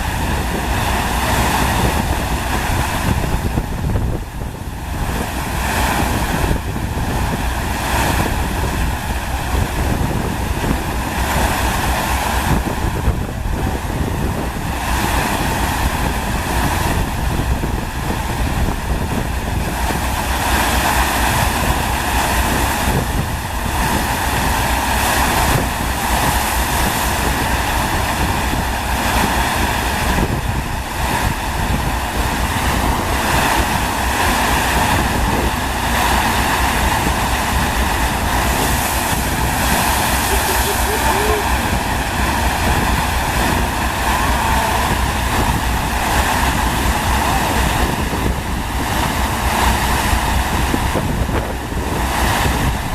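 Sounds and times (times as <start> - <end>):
water rushing over surface: 0.0 - 52.9
wind on microphone: 0.0 - 52.9.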